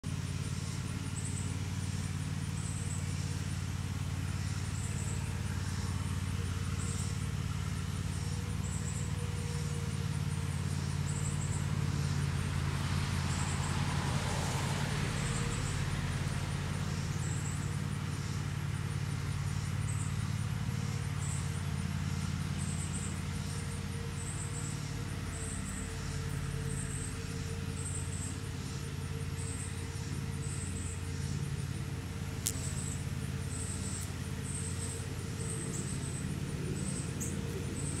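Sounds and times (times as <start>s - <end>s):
steady low hum: 0.0s - 38.0s
vehicle passing: 0.0s - 38.0s
insect chirping: 0.1s - 38.0s.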